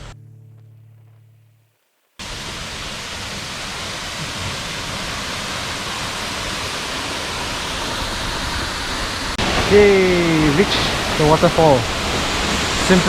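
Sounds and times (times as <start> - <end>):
waterfall rushing: 2.2 - 13.0.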